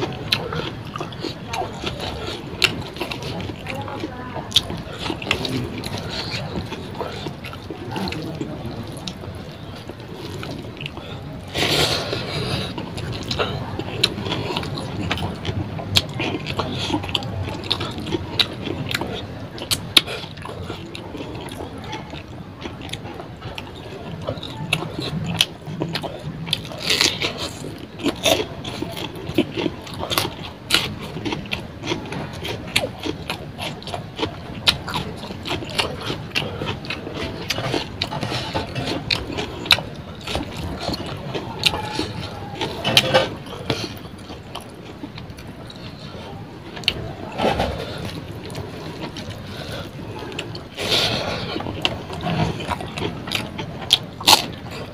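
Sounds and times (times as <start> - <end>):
man chewing food: 0.0 - 54.9.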